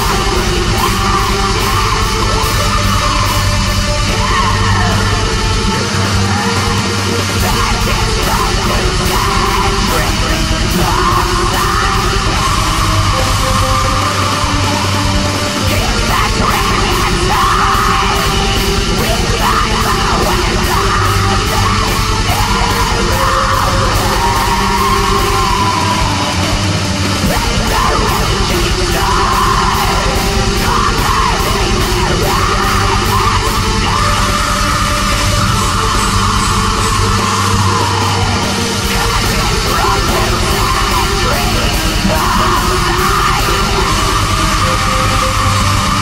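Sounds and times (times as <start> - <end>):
distorted guitars: 0.0 - 46.0
harsh screamed vocals: 0.0 - 46.0
rapid drumming: 0.0 - 46.0.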